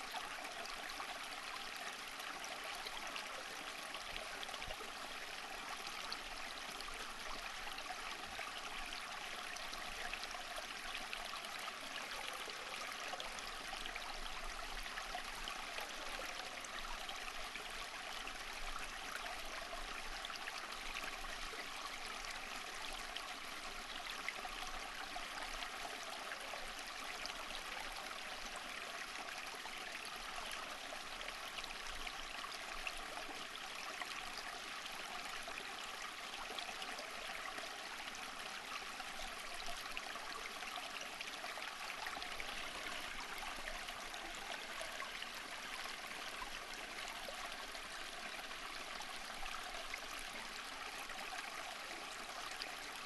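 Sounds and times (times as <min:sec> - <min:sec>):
stream flowing: 0:00.0 - 0:53.0.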